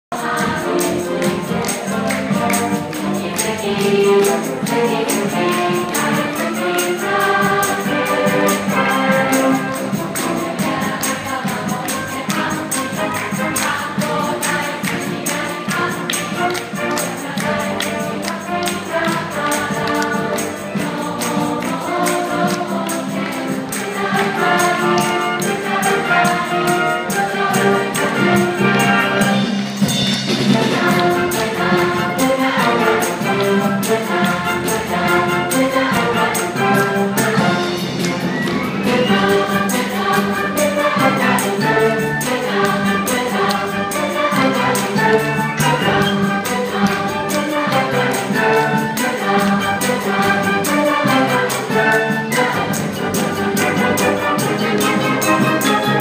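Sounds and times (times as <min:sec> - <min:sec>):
band accompaniment: 0:00.1 - 0:56.0
choir singing: 0:00.1 - 0:56.0
fast percussion beat: 0:00.1 - 0:56.0.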